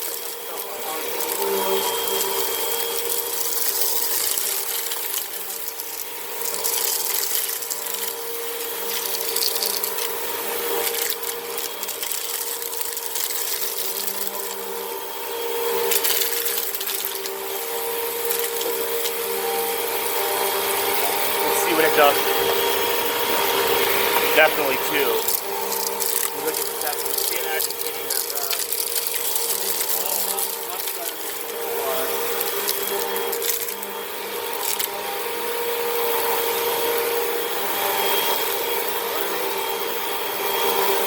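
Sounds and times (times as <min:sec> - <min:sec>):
vacuum cleaner motor whine: 0:00.0 - 0:41.0.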